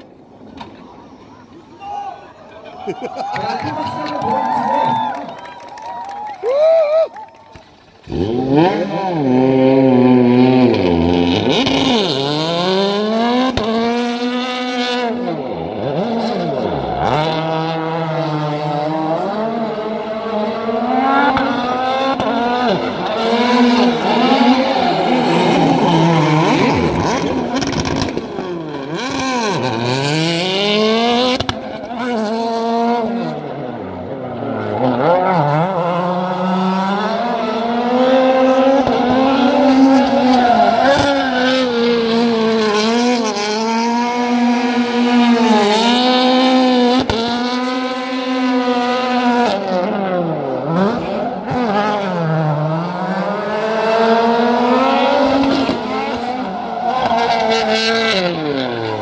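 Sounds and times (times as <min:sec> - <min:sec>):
car engine revving hard: 0:08.0 - 0:59.0.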